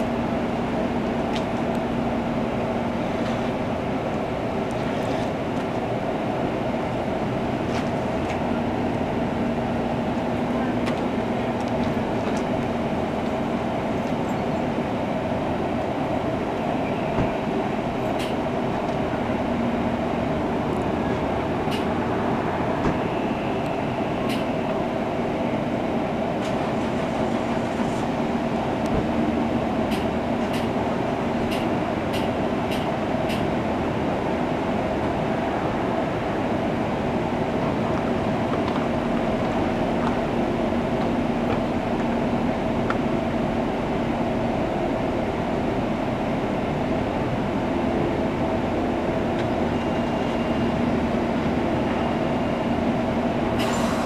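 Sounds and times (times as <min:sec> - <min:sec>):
train electrical hum: 0:00.0 - 0:54.0.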